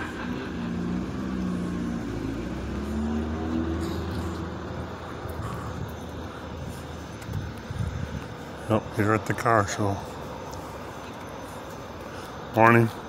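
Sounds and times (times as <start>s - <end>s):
car engine running: 0.0s - 12.8s.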